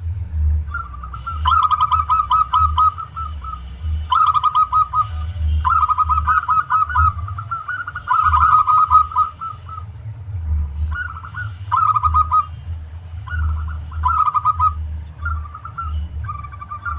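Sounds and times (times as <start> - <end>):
steady low rumble: 0.0 - 16.9
dove cooing: 0.5 - 16.9.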